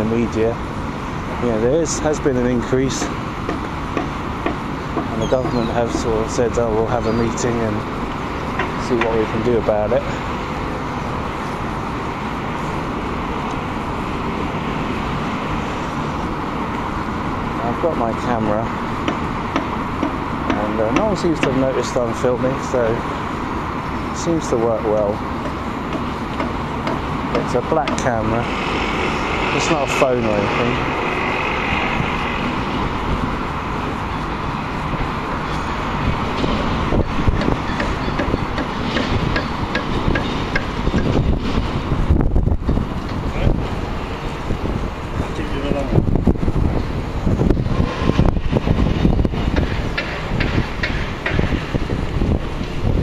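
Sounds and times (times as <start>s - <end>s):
road traffic hum: 0.0s - 53.0s.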